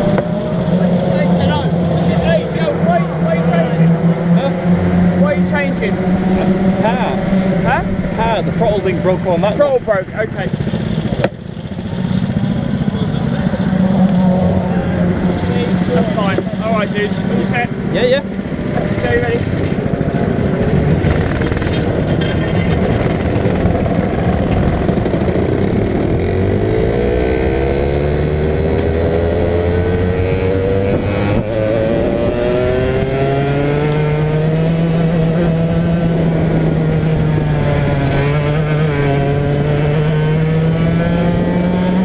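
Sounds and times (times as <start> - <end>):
racing kart engine accelerating: 0.0 - 42.0.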